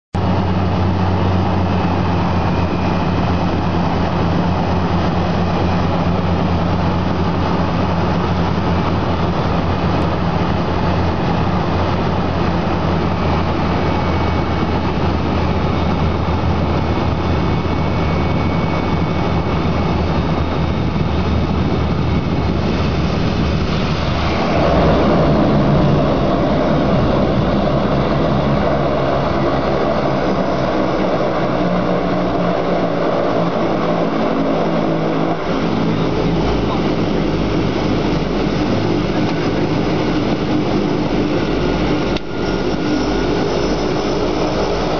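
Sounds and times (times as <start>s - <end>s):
propeller engines droning: 0.2s - 44.9s
rushing noise: 0.2s - 44.9s.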